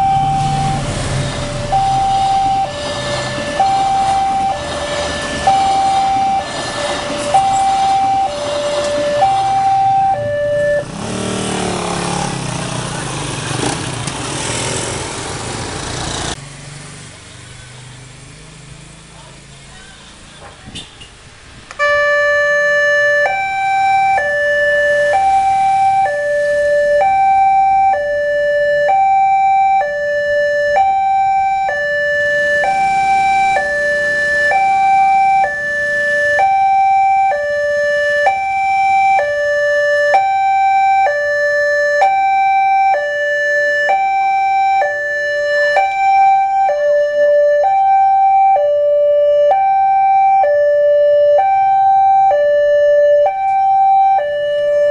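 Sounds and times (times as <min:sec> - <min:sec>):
level crossing two-tone alarm: 0:00.0 - 0:11.1, 0:21.8 - 0:54.9.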